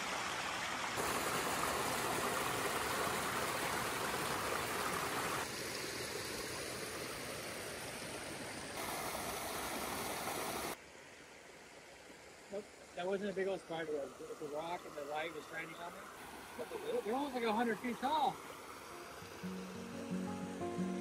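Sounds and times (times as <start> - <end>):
forest creek flowing: 0.0 - 21.0.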